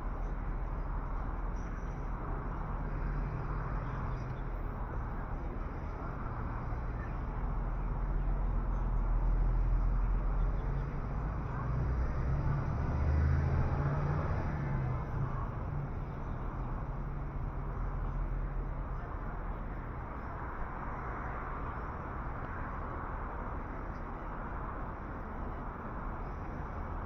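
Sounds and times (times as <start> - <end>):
low rumble of vehicle noise: 0.0 - 27.0.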